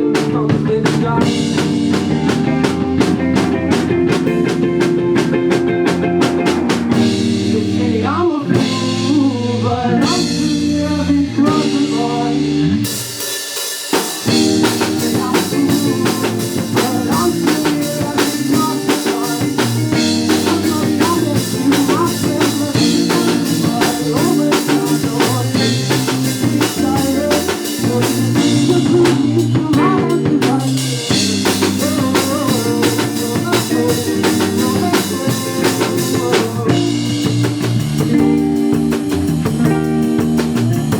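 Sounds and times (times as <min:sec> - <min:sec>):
person singing: 0:00.0 - 0:03.7, 0:07.2 - 0:13.3, 0:13.9 - 0:37.4
drum kit beat: 0:00.0 - 0:07.8, 0:08.5 - 0:40.9
rock band playing: 0:00.0 - 0:40.9.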